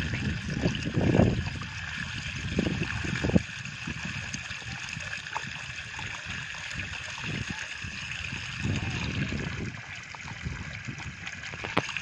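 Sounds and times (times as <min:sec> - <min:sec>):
water pouring and gurgling: 0:00.0 - 0:12.0.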